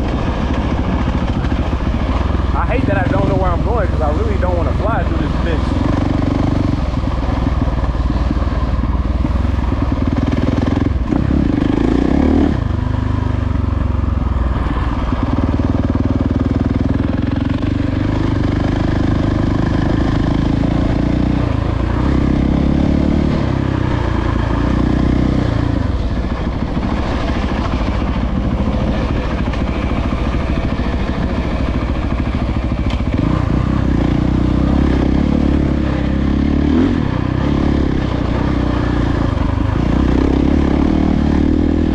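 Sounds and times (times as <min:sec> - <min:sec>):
dirt bike engine revving: 0:00.0 - 0:08.6, 0:09.2 - 0:13.3, 0:15.1 - 0:41.9.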